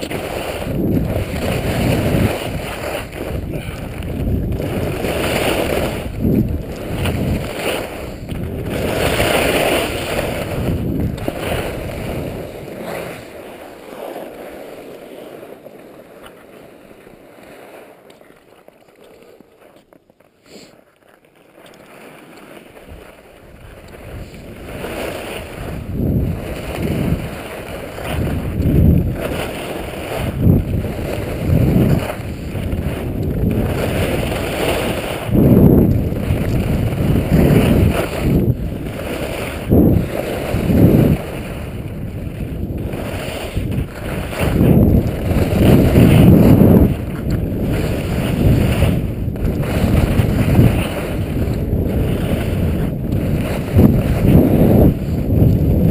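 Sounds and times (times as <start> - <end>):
wind buffeting microphone: 0.0 - 13.4, 22.9 - 55.9
skis sliding over packed snow: 0.0 - 55.9.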